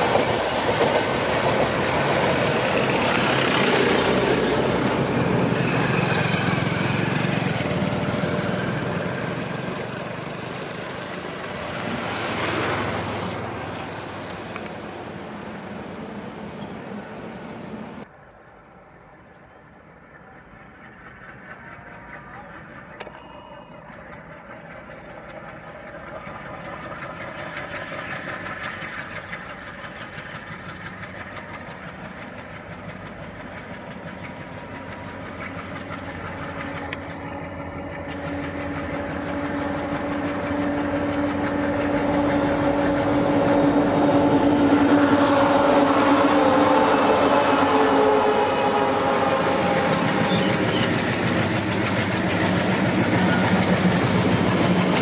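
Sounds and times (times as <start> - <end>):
diesel locomotive engines: 0.0 - 55.0.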